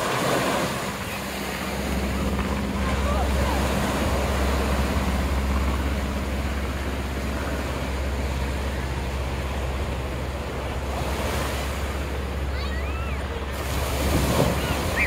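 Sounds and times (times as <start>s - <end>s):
surf washing: 0.0s - 15.0s.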